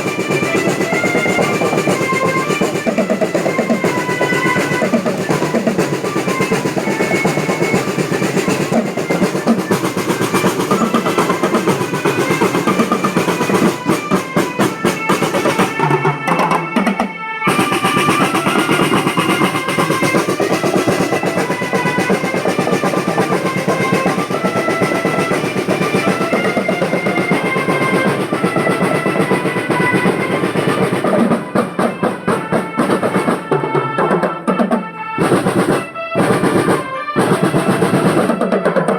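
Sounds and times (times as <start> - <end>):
marching drum band: 0.0 - 38.9
snare drum rolls: 0.0 - 38.9.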